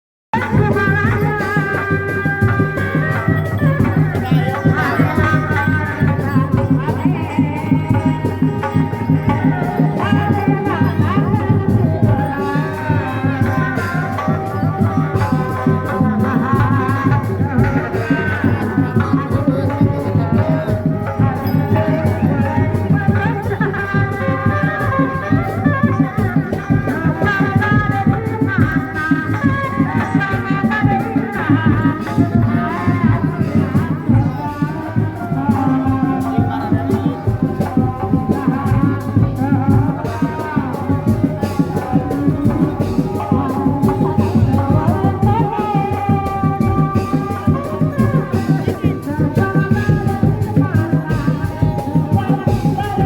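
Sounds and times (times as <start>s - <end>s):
fast dense drumming: 0.3s - 53.0s
rattling percussion: 0.3s - 53.0s
high wavering melody: 0.4s - 53.0s.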